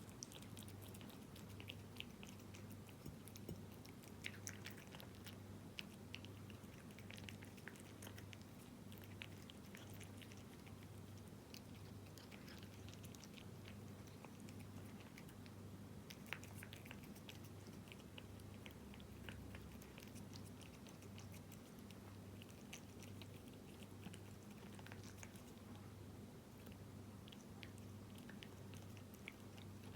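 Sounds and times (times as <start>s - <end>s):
cat chewing wet food: 0.0s - 29.9s.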